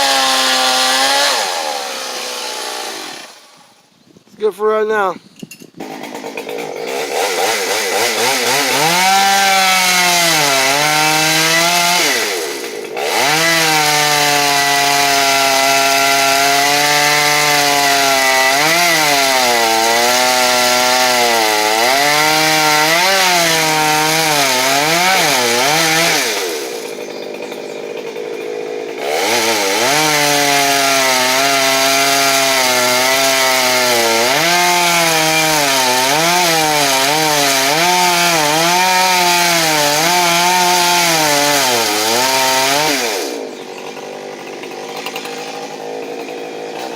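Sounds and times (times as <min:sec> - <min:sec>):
chainsaw cutting wood: 0:00.0 - 0:03.8, 0:05.6 - 0:46.9.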